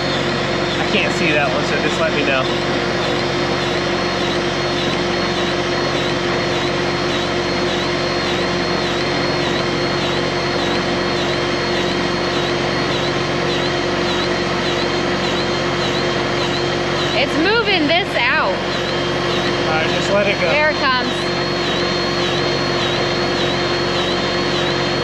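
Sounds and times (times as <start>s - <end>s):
grease gun motor whining: 0.0s - 25.0s.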